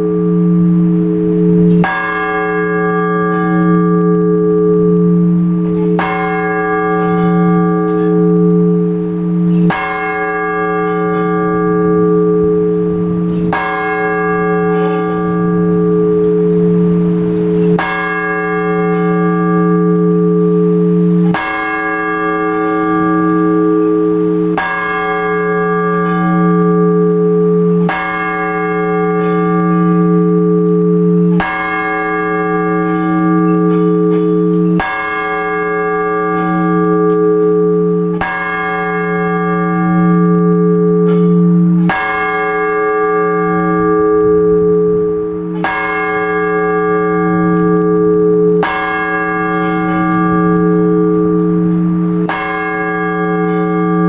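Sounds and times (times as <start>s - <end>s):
large church bell tolling: 0.0s - 54.0s.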